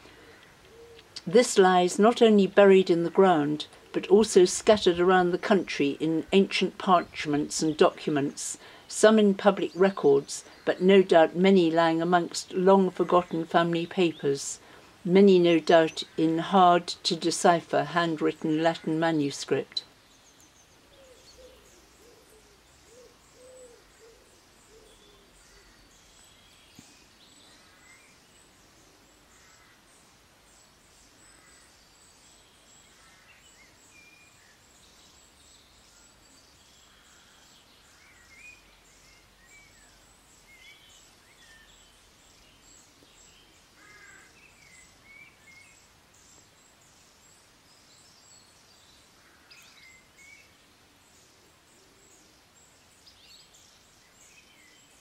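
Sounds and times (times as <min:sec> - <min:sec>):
low steady hiss: 0:00.0 - 0:55.0
small birds chirping: 0:00.0 - 0:55.0.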